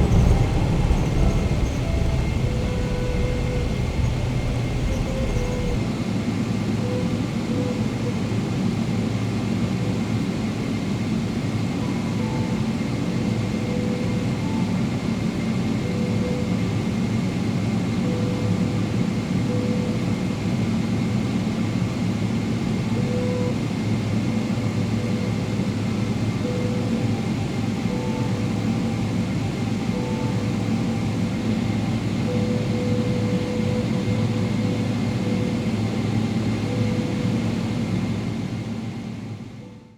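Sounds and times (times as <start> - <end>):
aircraft cabin engine whine and rumble: 0.0 - 39.9.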